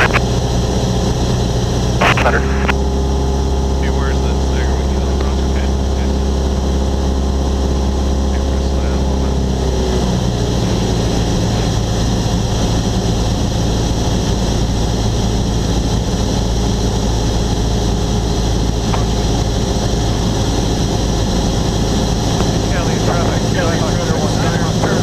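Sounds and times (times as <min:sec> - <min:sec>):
airplane engine droning: 0:00.0 - 0:25.0.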